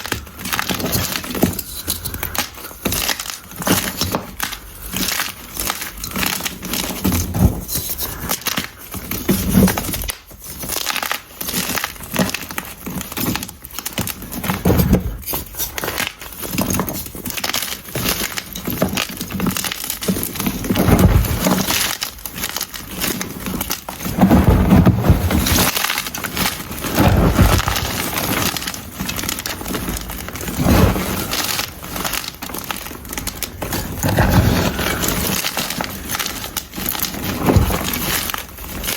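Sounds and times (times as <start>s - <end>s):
chalk blocks being crushed: 0.0s - 38.9s.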